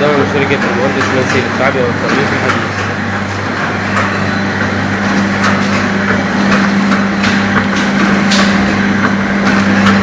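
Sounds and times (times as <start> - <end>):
machine motor hum: 0.0 - 10.0.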